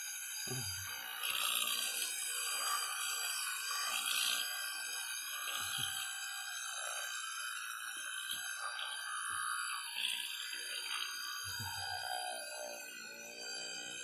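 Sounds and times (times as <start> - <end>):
electric toothbrush buzzing: 0.0 - 14.0.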